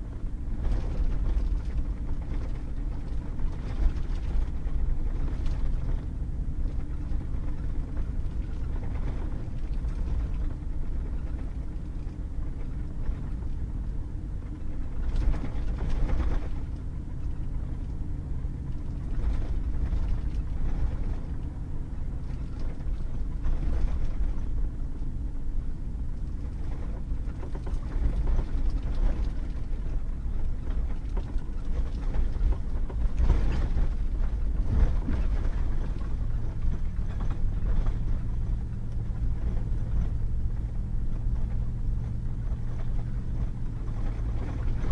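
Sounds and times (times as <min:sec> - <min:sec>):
engine and tires droning: 0:00.0 - 0:44.9.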